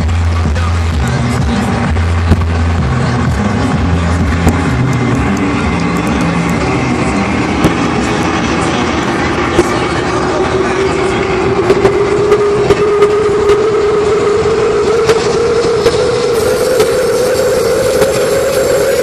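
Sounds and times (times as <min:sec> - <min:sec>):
loud electronic dance music: 0:00.0 - 0:19.0
synth note rising in pitch: 0:00.9 - 0:19.0.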